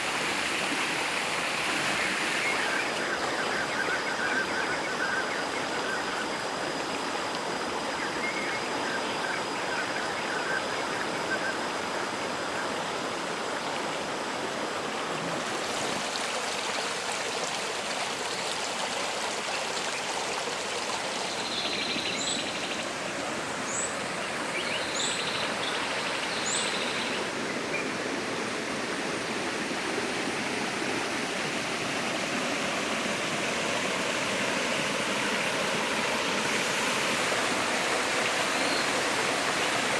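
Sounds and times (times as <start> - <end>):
water rushing over rocks: 0.0 - 8.2, 10.6 - 21.5, 22.2 - 39.9.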